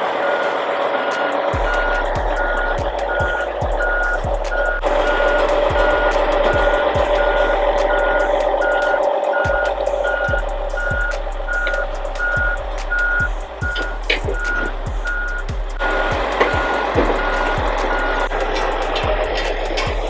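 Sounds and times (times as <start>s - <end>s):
hip-hop beat thumping: 1.1s - 20.0s
diesel engine running: 1.6s - 20.0s.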